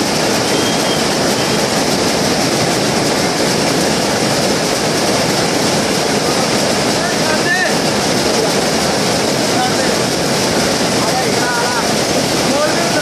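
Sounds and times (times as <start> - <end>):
weaving looms clattering: 0.0 - 13.0.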